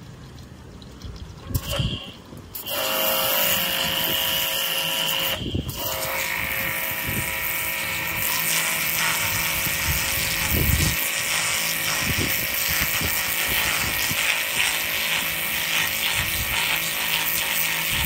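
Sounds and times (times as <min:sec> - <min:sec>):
pressure washer whining: 0:01.5 - 0:18.0.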